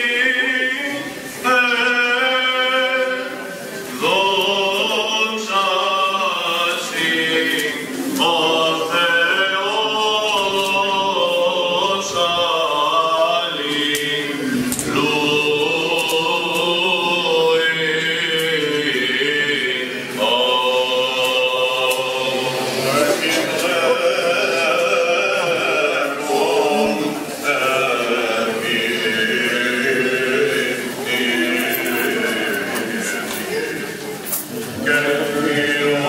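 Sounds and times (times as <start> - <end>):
liturgical chanting: 0.0 - 36.0.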